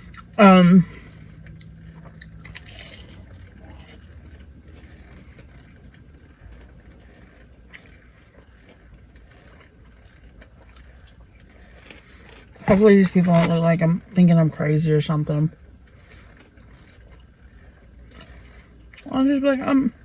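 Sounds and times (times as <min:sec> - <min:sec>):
chewing with small clicks: 0:00.0 - 0:12.6, 0:15.5 - 0:19.1.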